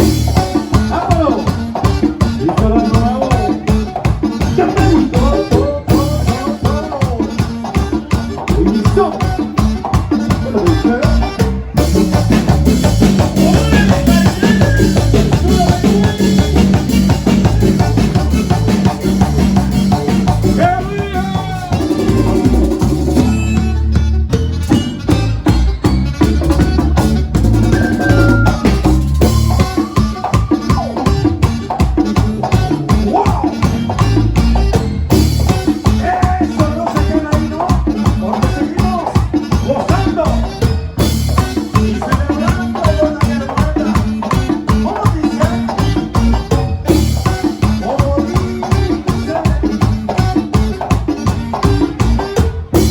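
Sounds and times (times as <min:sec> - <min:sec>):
melody instruments playing: 0:00.0 - 0:42.6
drum and percussion beat: 0:00.0 - 0:52.9.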